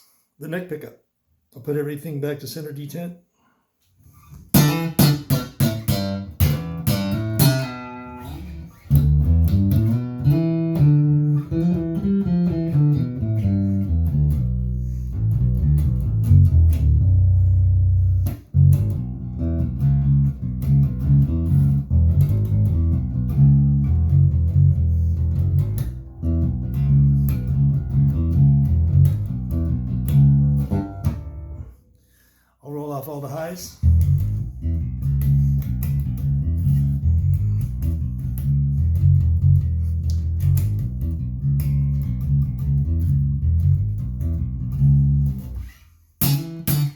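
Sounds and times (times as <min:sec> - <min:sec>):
electric bass riff: 0:04.3 - 0:31.8, 0:33.8 - 0:46.9.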